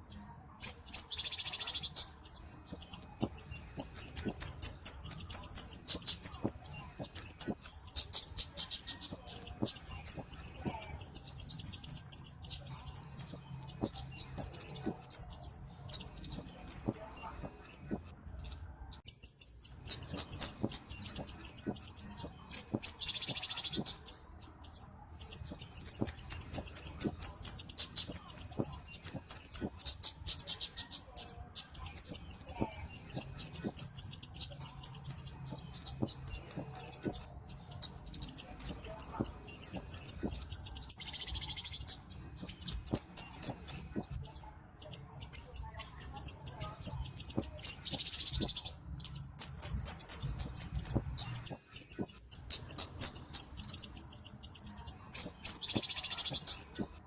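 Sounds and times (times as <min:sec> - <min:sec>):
bird chirping high thin notes: 0:00.0 - 0:57.0.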